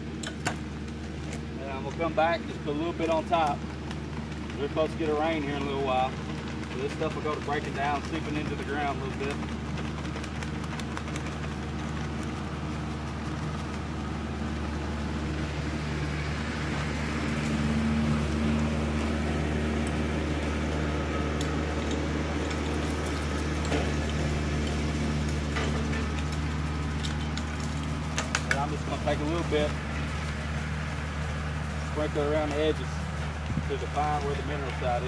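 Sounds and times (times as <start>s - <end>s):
tractor engine running: 0.0s - 35.0s
hand chopper knocking dirt: 0.1s - 15.8s, 16.7s - 29.9s.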